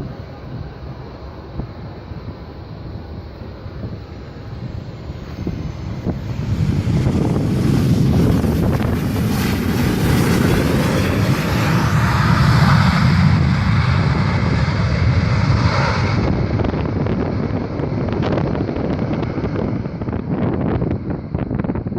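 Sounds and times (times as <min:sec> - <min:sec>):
distant jet engine roar: 0:00.0 - 0:21.9
wind buffeting microphone: 0:00.0 - 0:21.9.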